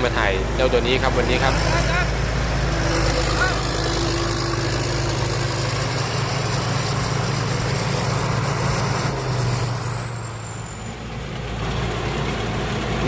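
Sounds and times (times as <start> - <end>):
combine harvester engine running: 0.0 - 13.0.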